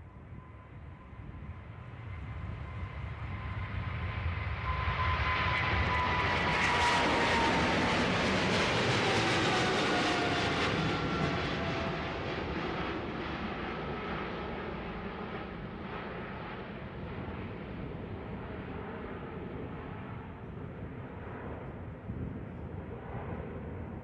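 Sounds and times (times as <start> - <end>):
jet engine whine: 0.0 - 24.0
jet airliner passing: 0.4 - 24.0.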